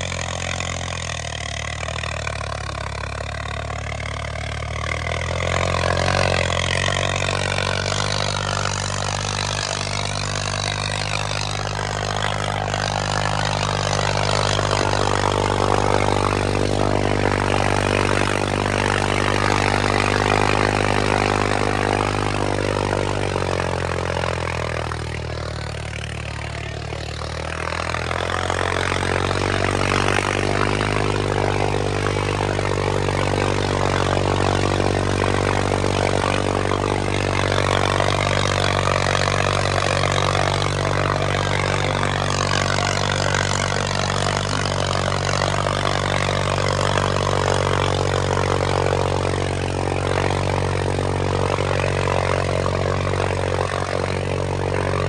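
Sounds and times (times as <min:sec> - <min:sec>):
diesel tractor engine revving: 0:00.0 - 0:55.0.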